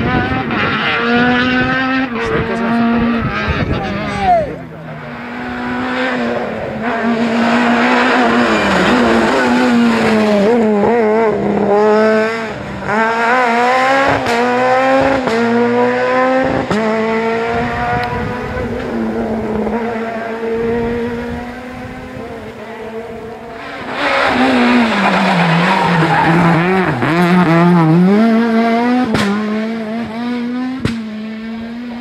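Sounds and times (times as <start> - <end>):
rally car engine accelerating: 0.0 - 32.0.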